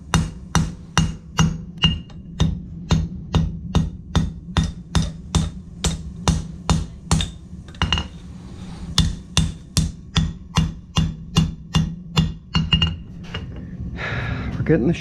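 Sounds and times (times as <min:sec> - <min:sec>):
hammer striking steel on anvil: 0:00.0 - 0:08.1, 0:09.0 - 0:13.4
steady low hum: 0:00.0 - 0:15.0.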